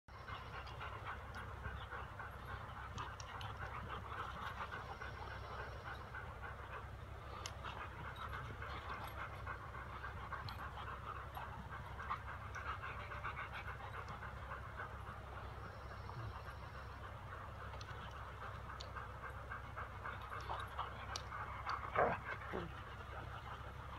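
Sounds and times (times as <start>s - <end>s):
dogs panting hard: 0.1s - 23.9s.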